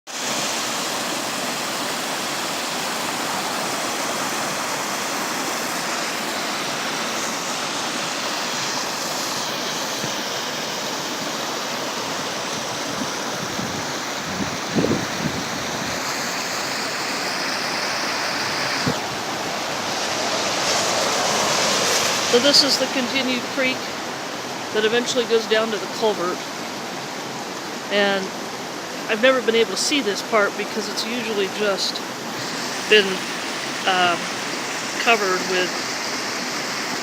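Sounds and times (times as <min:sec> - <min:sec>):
creek water rushing: 0:00.1 - 0:37.0.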